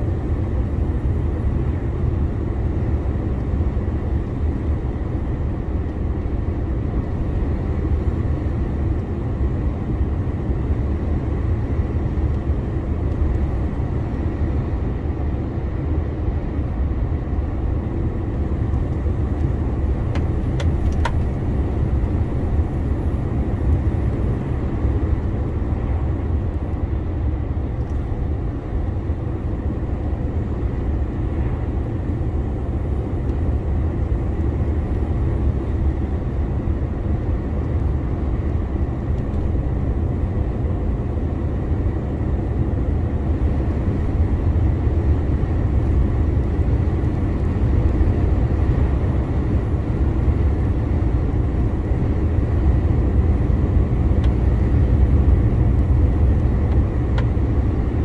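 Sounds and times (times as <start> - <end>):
lorry engine and road rumble: 0.0 - 58.0.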